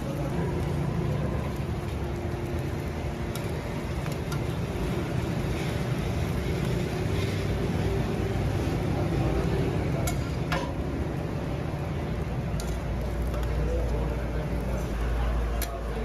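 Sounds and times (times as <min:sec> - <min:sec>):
busy roadside rumble: 0:00.0 - 0:16.0.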